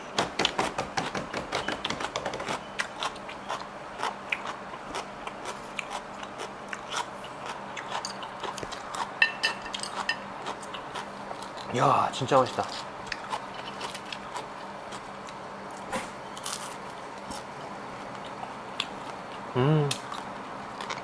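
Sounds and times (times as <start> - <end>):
person chewing crunchy food: 0.4 - 11.8, 12.6 - 21.0.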